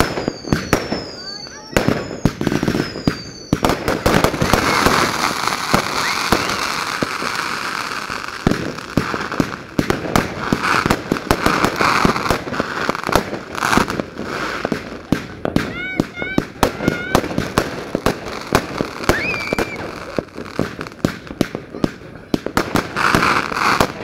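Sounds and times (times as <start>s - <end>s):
dense firework crackling: 0.0s - 24.0s
firework bangs: 0.0s - 24.0s.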